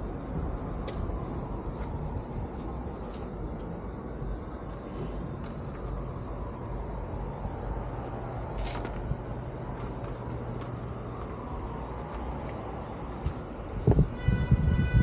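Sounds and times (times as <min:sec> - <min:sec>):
vehicle engine rumbling: 0:00.0 - 0:14.8.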